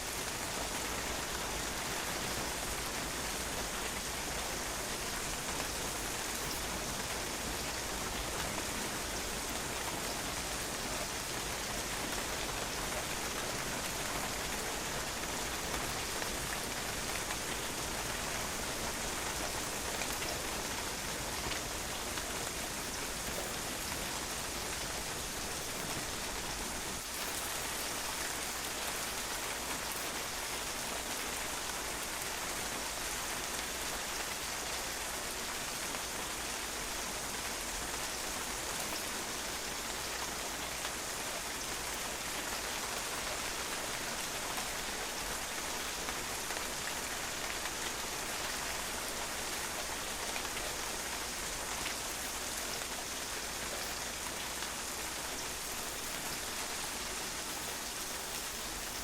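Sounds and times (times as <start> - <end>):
rain pattering on a patio: 0.0 - 59.0.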